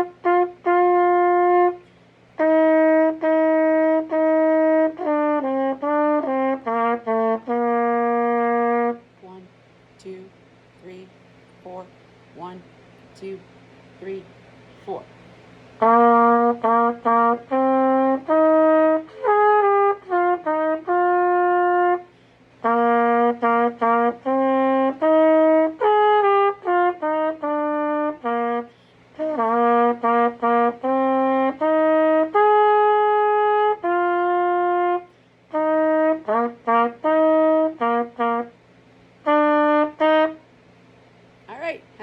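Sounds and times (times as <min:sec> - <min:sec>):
solo trumpet melody: 0:00.0 - 0:09.1, 0:15.8 - 0:40.5.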